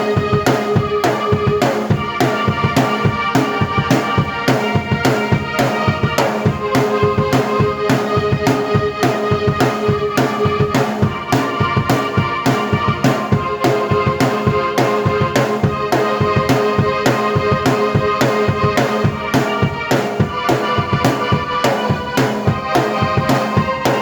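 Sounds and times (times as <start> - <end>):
steady drum beat: 0.0 - 24.0
sustained keyboard chords: 0.0 - 24.0.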